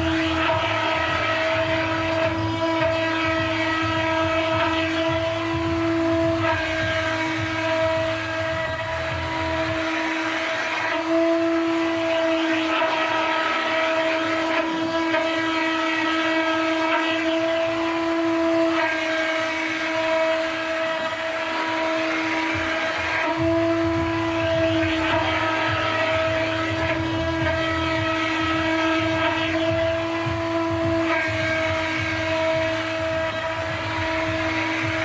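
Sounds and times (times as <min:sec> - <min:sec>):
cutter hissing through board: 0:00.0 - 0:35.0
router spindle whine: 0:00.0 - 0:35.0.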